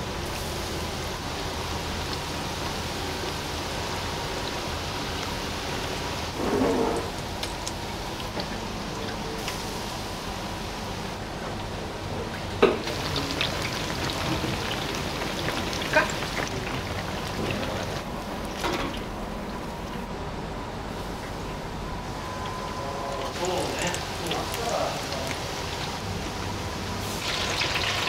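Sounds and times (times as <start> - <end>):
oil sizzling in deep fryer: 0.0 - 20.1, 20.8 - 28.0.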